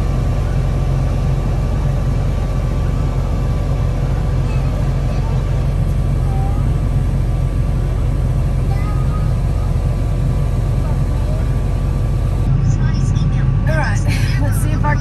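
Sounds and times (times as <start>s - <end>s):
heavy diesel machinery drone: 0.0s - 15.0s.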